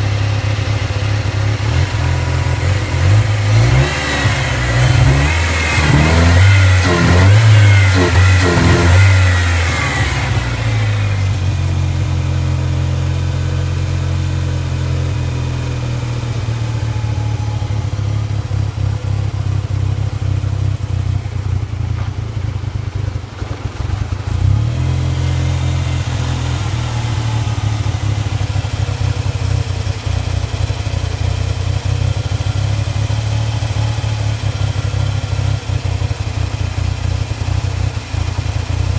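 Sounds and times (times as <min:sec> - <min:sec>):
truck engine revving and idling roughly: 0:00.0 - 0:38.9.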